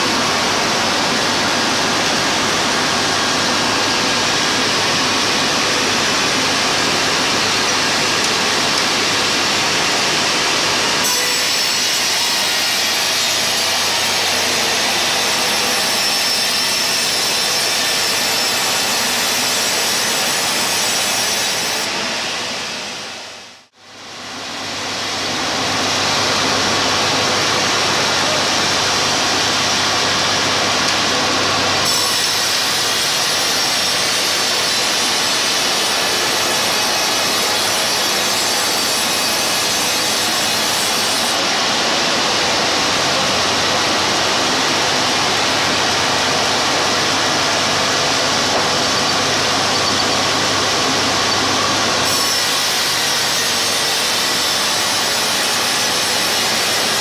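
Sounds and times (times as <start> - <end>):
band saw cutting a log: 0.0 - 23.0, 24.8 - 57.0.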